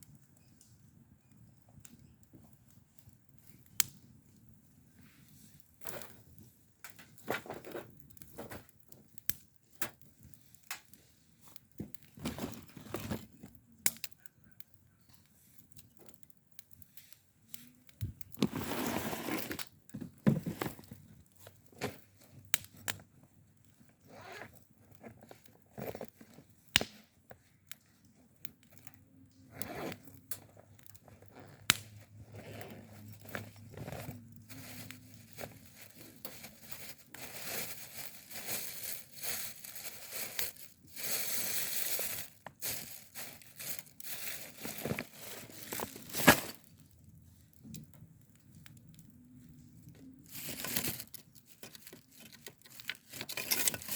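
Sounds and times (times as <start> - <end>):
crinkly material rustling: 5.0 - 13.6, 16.8 - 53.9.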